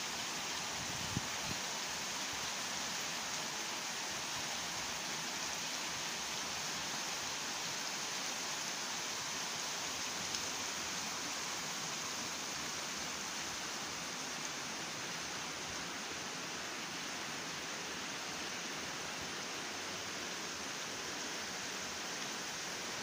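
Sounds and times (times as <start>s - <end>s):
stream flowing over stones: 0.0s - 23.0s.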